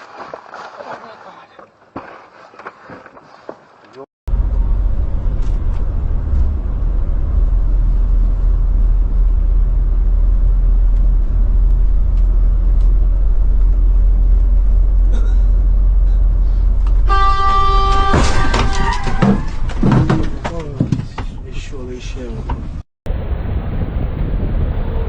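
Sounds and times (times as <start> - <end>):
low rumble of road vehicle: 4.3 - 25.0.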